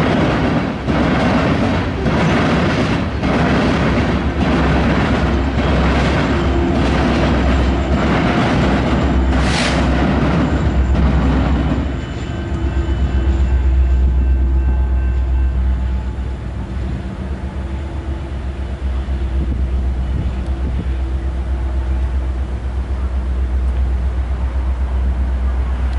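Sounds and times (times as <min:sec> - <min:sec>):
freight train rumbling past: 0:00.0 - 0:25.9
locomotive engine hum: 0:00.0 - 0:25.9.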